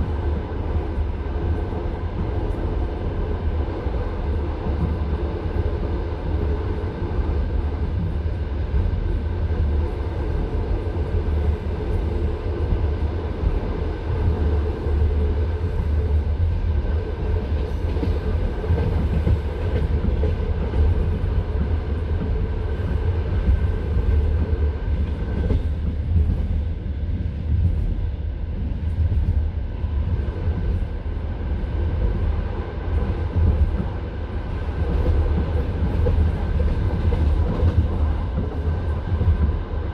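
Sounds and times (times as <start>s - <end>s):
train knocking and rattling: 0.0s - 39.9s
train wheels rumbling on rails: 0.0s - 39.9s.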